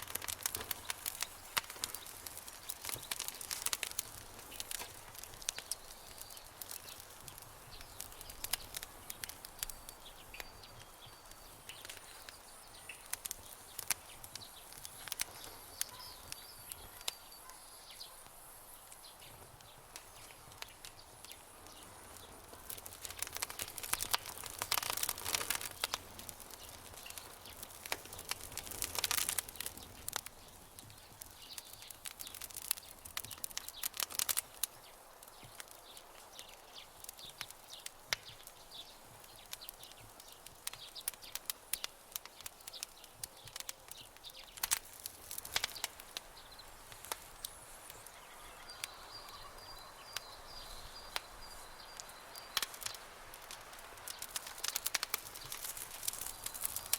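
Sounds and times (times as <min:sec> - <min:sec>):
campfire crackling: 0:00.0 - 0:56.9
soft steady hiss: 0:00.0 - 0:56.9.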